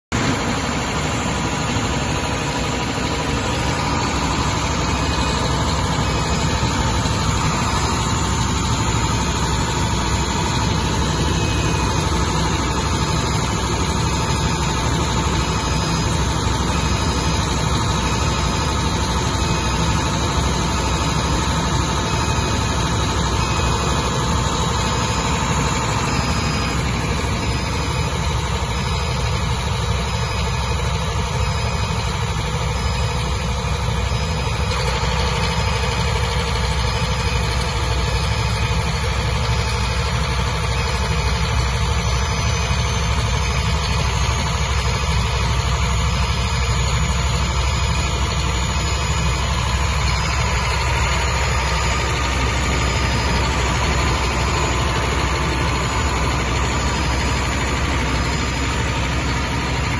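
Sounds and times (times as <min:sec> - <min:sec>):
diesel generator running: 0:00.0 - 0:59.9.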